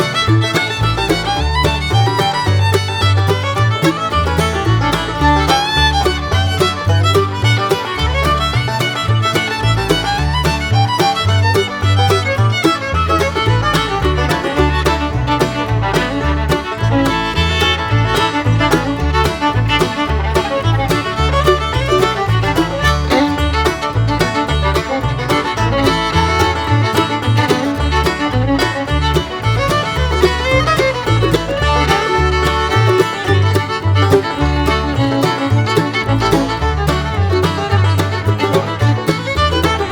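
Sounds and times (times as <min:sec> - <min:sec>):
upbeat bluegrass fiddle music: 0:00.0 - 0:39.9.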